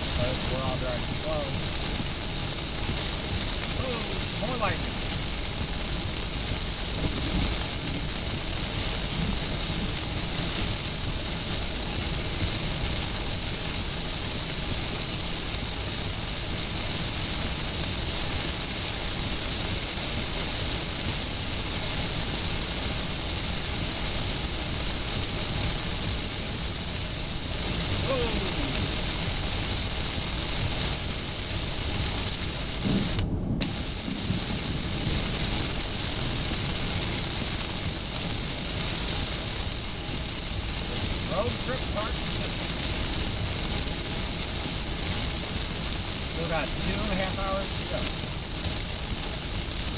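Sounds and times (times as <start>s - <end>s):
heavy rain on car windshield: 0.0s - 49.9s
road and engine noise: 0.0s - 49.9s.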